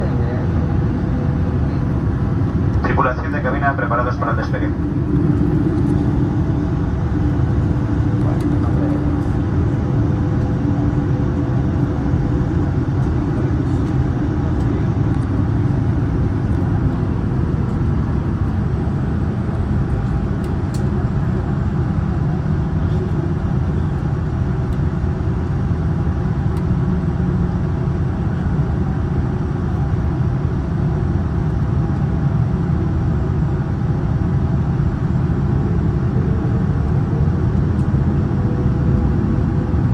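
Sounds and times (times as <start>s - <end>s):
airplane cabin takeoff rumble: 0.0s - 39.9s.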